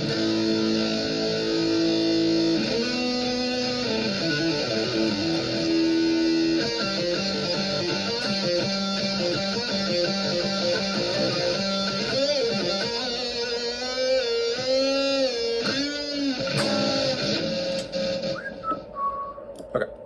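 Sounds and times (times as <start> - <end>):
distorted electric guitar: 0.0 - 18.9.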